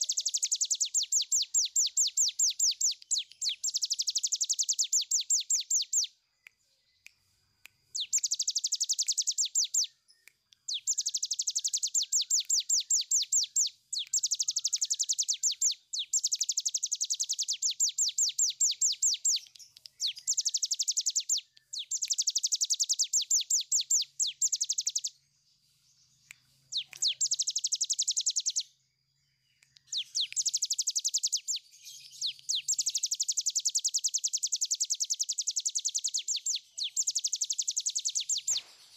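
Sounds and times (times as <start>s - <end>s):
bird rattling song: 0.0s - 6.1s, 7.9s - 25.2s, 26.7s - 28.7s, 29.8s - 38.9s.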